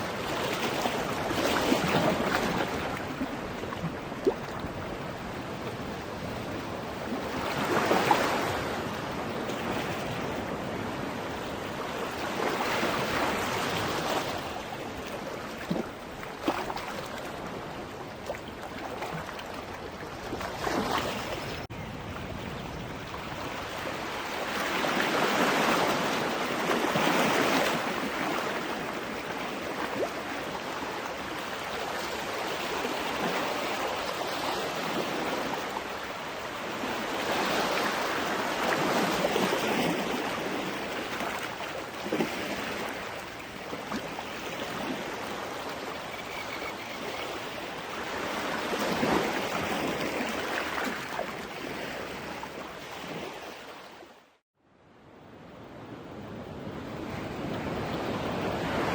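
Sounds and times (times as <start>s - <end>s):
ocean waves breaking on beach: 0.0s - 54.4s, 55.0s - 58.9s.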